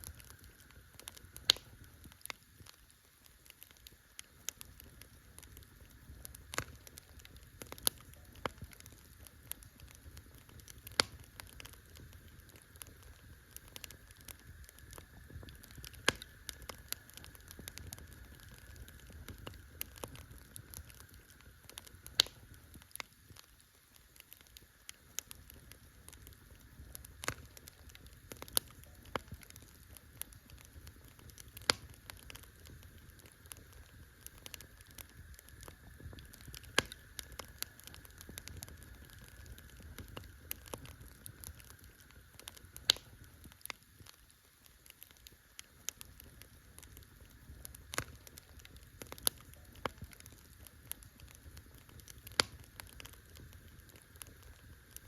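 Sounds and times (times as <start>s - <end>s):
burning wood popping: 0.0s - 55.0s
campfire crackling: 0.0s - 55.0s
soft steady hiss: 0.0s - 55.0s.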